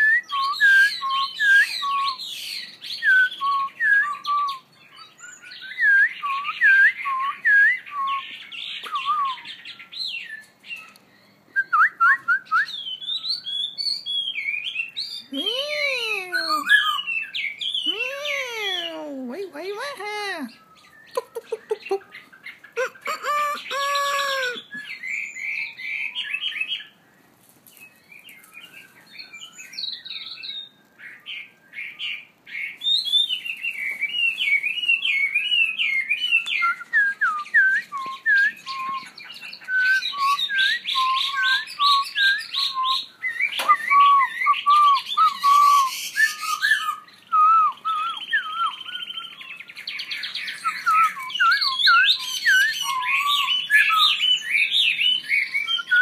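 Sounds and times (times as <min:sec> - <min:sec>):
canaries trilling: 0:00.0 - 0:11.5, 0:12.7 - 0:27.2, 0:27.8 - 0:36.9, 0:37.8 - 0:56.0
songbirds whistling: 0:00.0 - 0:56.0.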